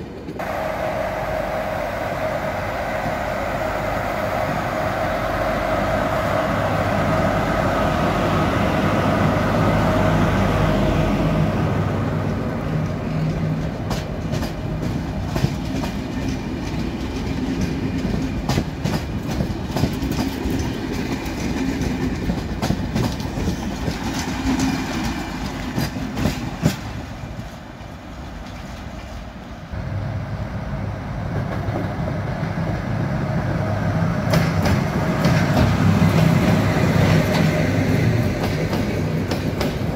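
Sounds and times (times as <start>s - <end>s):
train machine hum: 0.0s - 39.9s
train wheels clickety-clack: 4.3s - 29.5s, 31.2s - 39.9s.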